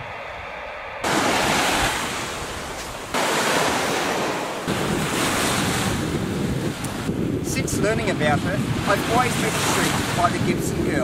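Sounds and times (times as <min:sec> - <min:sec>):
wind buffeting microphone: 0:00.0 - 0:11.0
waves washing up a beach: 0:01.0 - 0:11.0.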